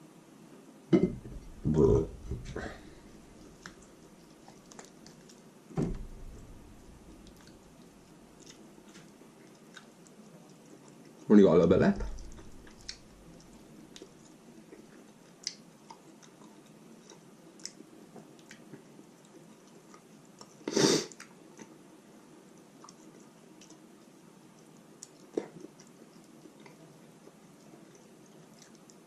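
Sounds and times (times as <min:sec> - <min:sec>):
chewing with wet mouth clicks: 0:03.0 - 0:11.3, 0:12.0 - 0:21.8, 0:22.6 - 0:29.0.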